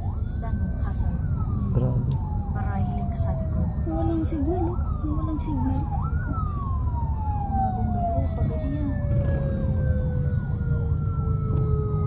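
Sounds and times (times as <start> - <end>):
emergency vehicle siren wailing: 0.0 - 12.0
engine and road noise rumble: 0.0 - 12.0.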